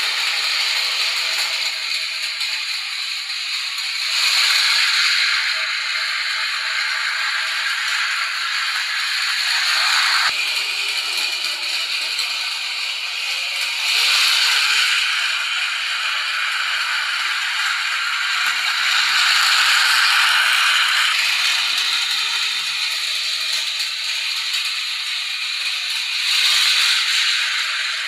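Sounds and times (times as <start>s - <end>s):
toy train motor whirring: 0.0s - 28.0s
toy train wheels rattling: 0.0s - 28.0s.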